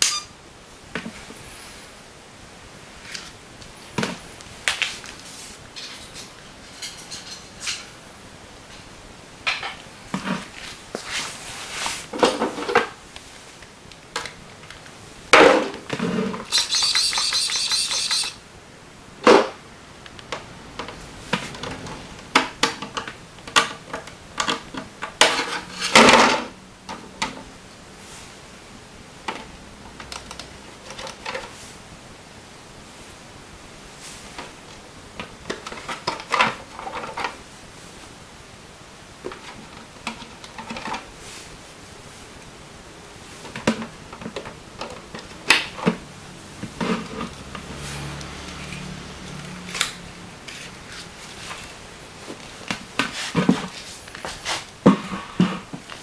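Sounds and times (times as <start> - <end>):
high whirring noise: 0.0 - 56.0.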